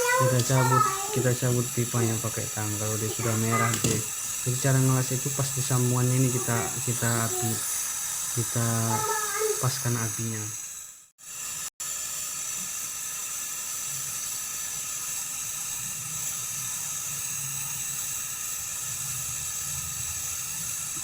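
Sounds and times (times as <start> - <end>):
welding torch flame hissing: 0.0 - 21.0.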